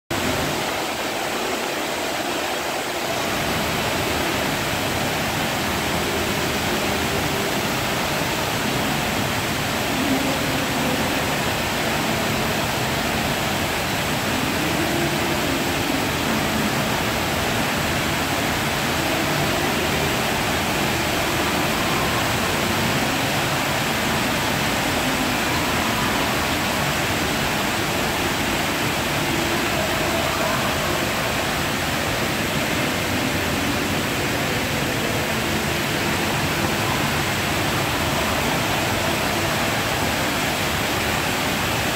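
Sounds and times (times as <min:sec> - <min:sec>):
fountain water splashing: 0:00.1 - 0:41.9.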